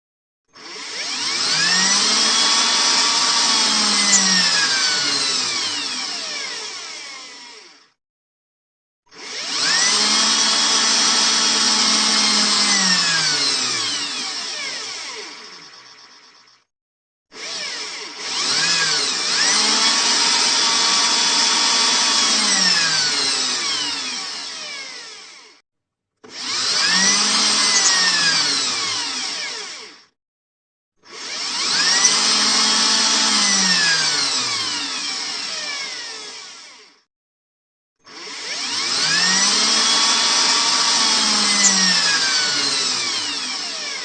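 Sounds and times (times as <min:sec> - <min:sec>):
electric drill running: 0:00.6 - 0:08.0, 0:09.1 - 0:16.7, 0:17.3 - 0:25.6, 0:26.2 - 0:30.2, 0:31.0 - 0:37.1, 0:38.1 - 0:44.0.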